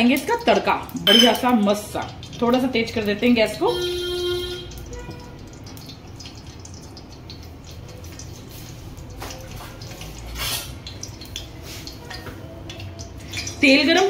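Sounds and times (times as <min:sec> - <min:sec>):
oil hissing in a pot: 0:01.6 - 0:14.0.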